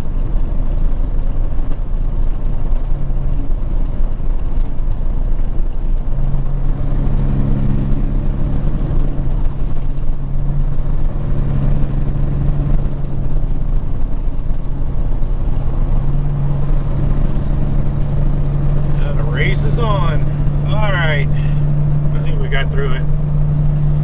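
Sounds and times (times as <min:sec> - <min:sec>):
road and tyre noise: 0:00.0 - 0:24.0
truck engine drone: 0:00.0 - 0:24.0.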